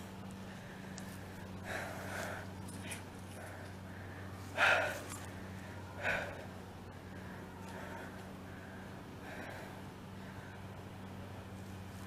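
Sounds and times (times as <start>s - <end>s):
steady low hum: 0.0s - 12.0s
short sharp breaths: 0.4s - 10.8s.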